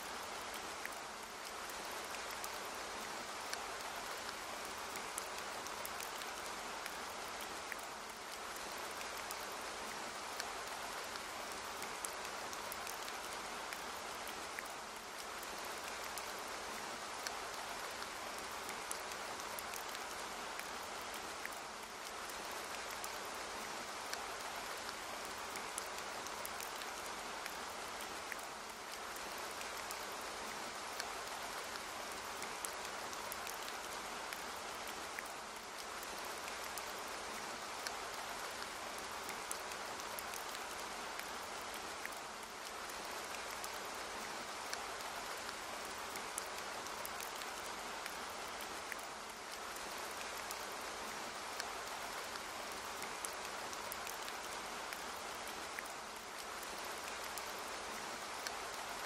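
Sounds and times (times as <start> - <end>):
light rain hiss: 0.0 - 59.0
raindrop ticks: 0.1 - 59.0.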